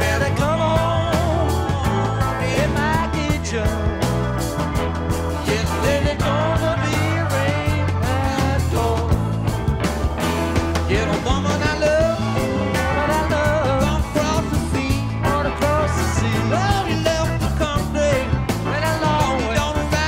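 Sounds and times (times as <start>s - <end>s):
electric guitar playing blues: 0.0s - 20.0s
low bass pulse: 0.0s - 20.0s.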